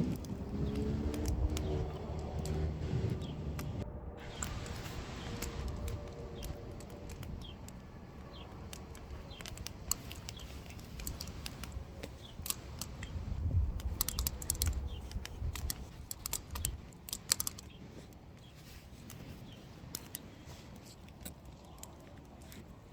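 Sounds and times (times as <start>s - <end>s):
wood fire crackling and popping: 0.0s - 18.4s.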